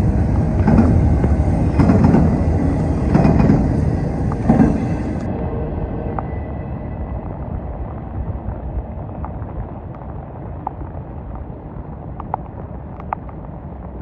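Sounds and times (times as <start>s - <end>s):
muffled freight train rumble: 0.0s - 13.8s.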